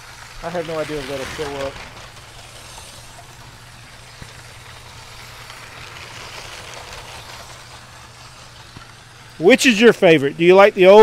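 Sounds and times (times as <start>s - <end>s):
toy train motors whirring: 0.0s - 11.0s.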